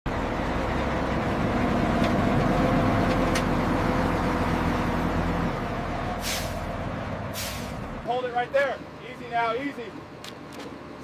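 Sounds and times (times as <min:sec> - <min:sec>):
heavy vehicle engine humming: 0:00.1 - 0:11.0.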